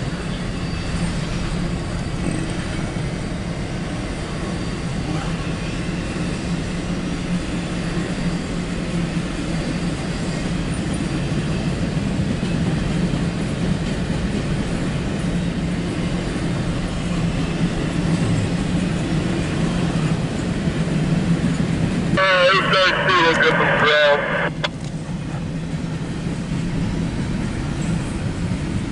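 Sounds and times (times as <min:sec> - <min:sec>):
freight train wheels on rails: 0:00.0 - 0:28.9.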